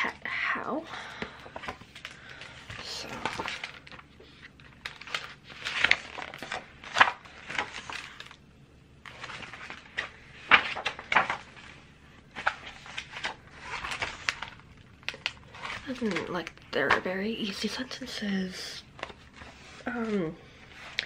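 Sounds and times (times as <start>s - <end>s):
book pages turning: 1.2s - 8.4s, 9.0s - 17.7s, 18.9s - 21.0s.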